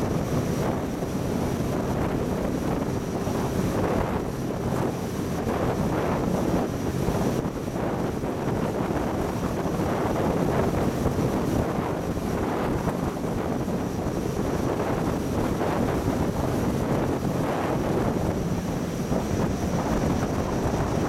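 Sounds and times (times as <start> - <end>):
spray and bow wave rushing: 0.0 - 21.0
wind buffeting microphone: 0.0 - 21.0.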